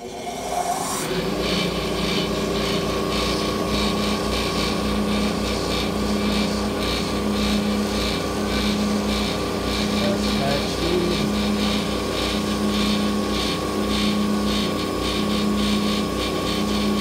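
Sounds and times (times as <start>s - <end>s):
drum sander motor hum pulsing: 0.0s - 17.0s.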